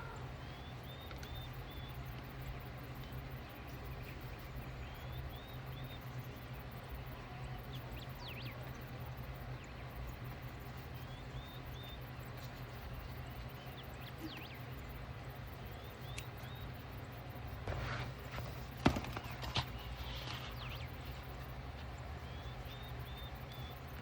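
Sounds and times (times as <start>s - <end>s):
small birds singing and chirping: 0.0s - 24.0s
steady low hum: 0.0s - 24.0s.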